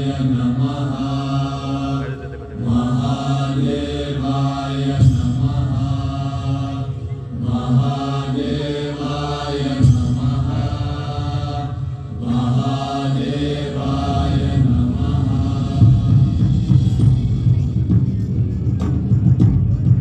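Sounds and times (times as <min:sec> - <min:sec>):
chanted mantra with music: 0:00.0 - 0:19.5
low drone: 0:00.0 - 0:19.9.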